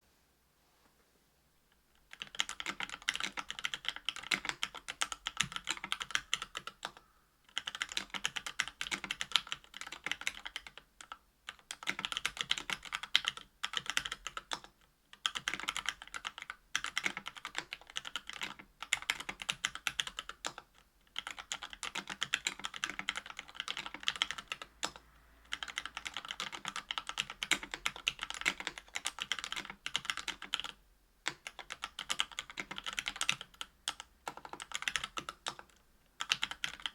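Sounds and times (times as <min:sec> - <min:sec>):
mechanical keyboard typing: 0:02.0 - 0:36.9.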